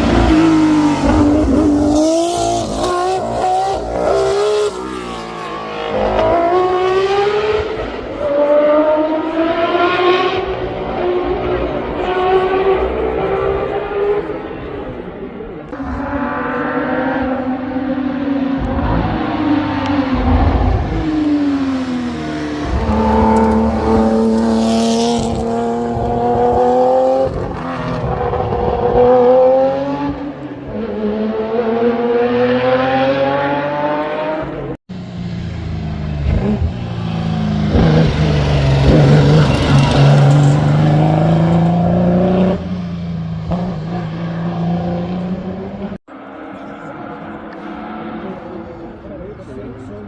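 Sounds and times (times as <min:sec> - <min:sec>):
racing car engines revving: 0:00.0 - 0:50.0.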